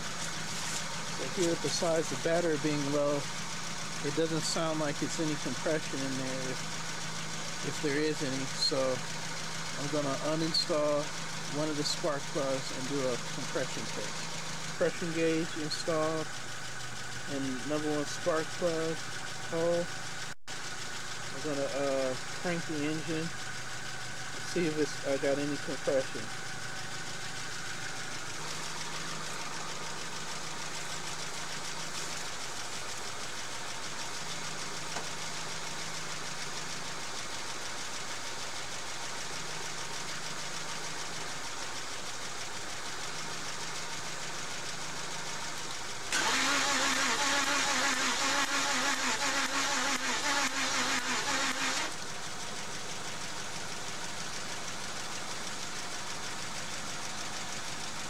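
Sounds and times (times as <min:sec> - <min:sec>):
engine cranking by starter: 0:00.0 - 0:58.0.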